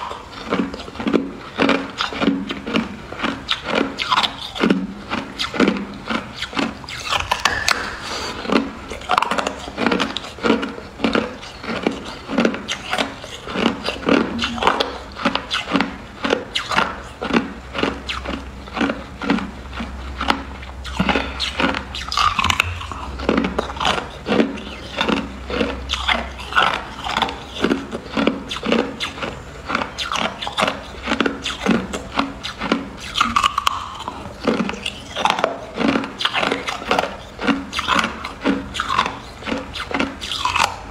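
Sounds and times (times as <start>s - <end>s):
teeth crunching ice: 0.0s - 40.9s.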